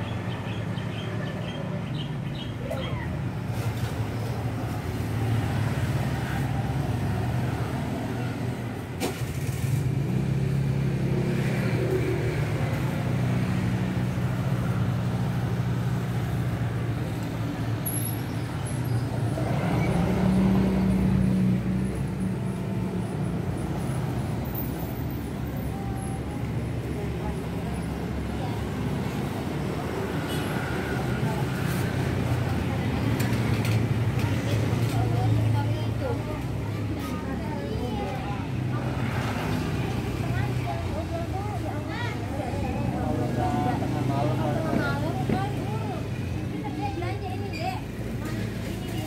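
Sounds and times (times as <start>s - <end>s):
vehicle engines humming: 0.0s - 49.0s.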